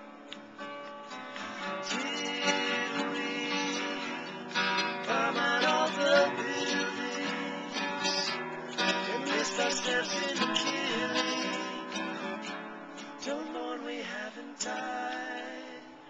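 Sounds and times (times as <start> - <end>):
acoustic guitars strumming: 0.0 - 16.0
men singing: 1.8 - 12.3, 13.2 - 16.0.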